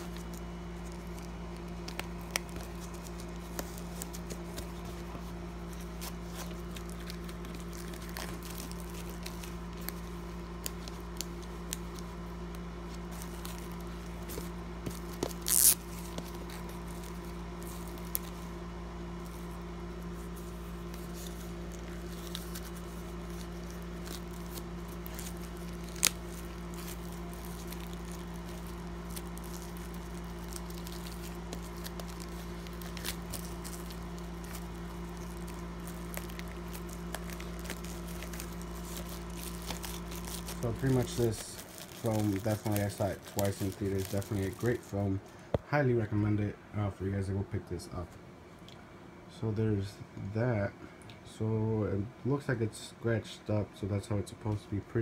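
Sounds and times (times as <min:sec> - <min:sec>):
plastic wrapping crinkling: 0:00.0 - 0:45.2
steady low hum: 0:00.0 - 0:55.0.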